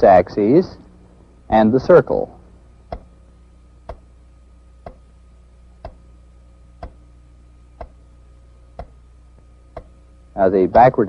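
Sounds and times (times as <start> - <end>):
low steady hum: 0.0 - 11.0
steady sharp ticking: 0.8 - 10.9.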